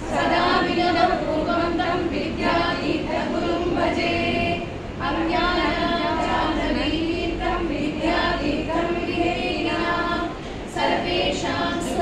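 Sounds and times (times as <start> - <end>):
woman singing a hymn: 0.2 - 12.0.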